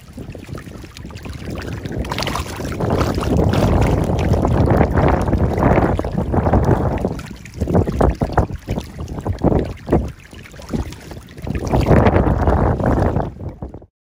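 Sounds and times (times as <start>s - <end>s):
fish splashing in shallow water: 0.0s - 13.8s
wind buffeting microphone: 0.0s - 13.9s.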